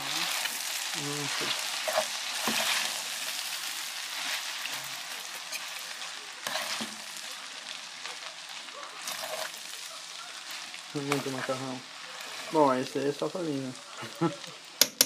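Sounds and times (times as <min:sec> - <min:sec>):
sizzling in pot: 0:00.0 - 0:15.0.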